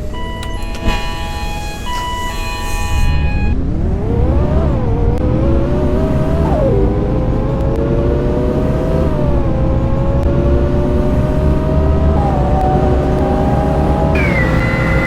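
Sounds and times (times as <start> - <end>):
bus engine drone with gear shift: 0.0 - 15.0.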